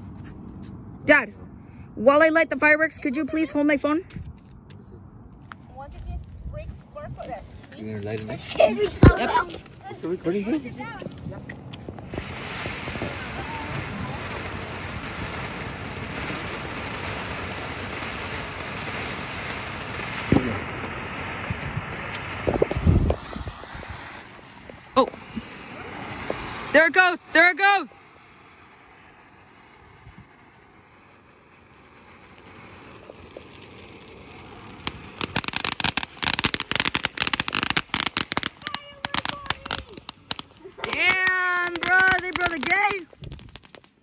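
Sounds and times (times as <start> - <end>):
firework fountain hissing: 1.8 - 4.0, 5.7 - 44.0
firework crackling pops: 5.4 - 44.0.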